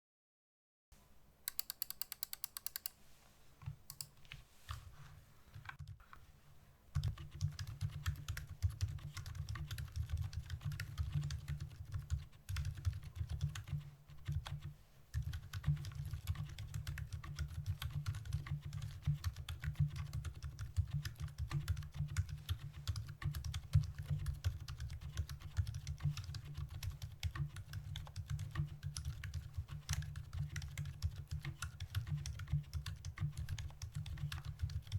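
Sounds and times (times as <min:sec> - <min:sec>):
typing on mechanical keyboard: 0:01.5 - 0:03.0, 0:03.9 - 0:04.2, 0:07.0 - 0:34.9.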